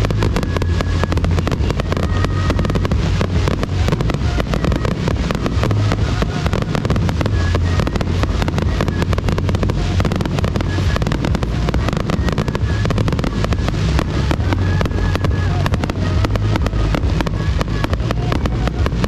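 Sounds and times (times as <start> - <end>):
deep fireworks booms: 0.0 - 19.0
fireworks crackles: 0.0 - 19.0.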